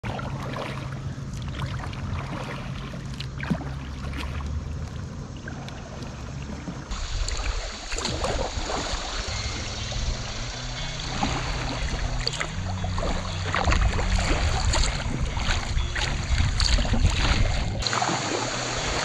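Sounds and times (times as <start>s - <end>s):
paddle blades dipping: 0.0s - 19.0s
rush of moving water: 0.0s - 19.0s
small splashes: 0.0s - 19.0s
water lapping against kayak hull: 0.0s - 19.0s.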